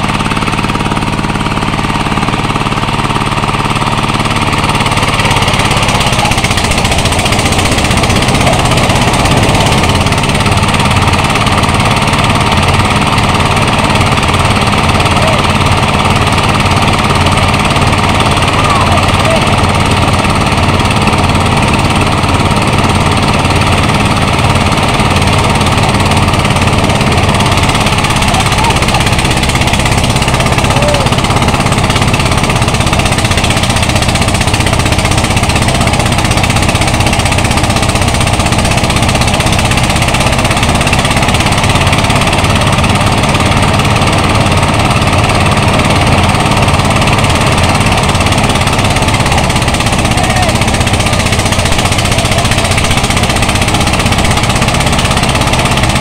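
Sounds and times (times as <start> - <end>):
rice thresher engine running: 0.0 - 56.0.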